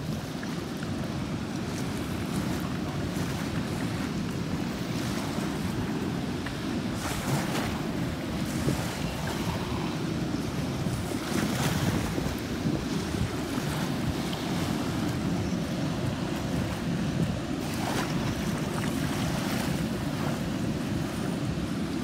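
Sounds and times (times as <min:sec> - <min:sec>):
river water rushing: 0:00.0 - 0:22.0
wind buffeting microphone: 0:00.0 - 0:22.0.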